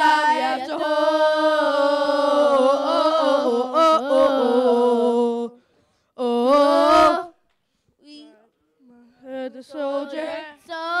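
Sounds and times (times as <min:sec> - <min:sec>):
young voices singing gospel: 0:00.0 - 0:07.4, 0:09.2 - 0:11.0.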